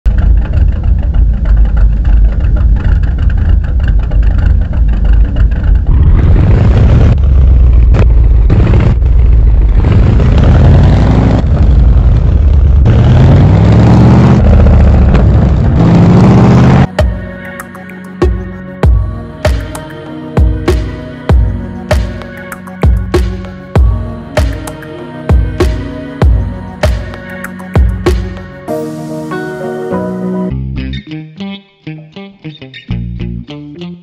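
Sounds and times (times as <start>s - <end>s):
car engine revving: 0.1s - 28.7s.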